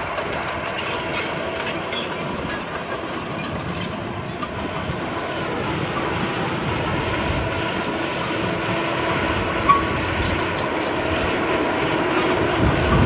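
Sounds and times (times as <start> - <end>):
diesel engine running: 0.0 - 13.0
steel tracks clattering: 0.0 - 13.0.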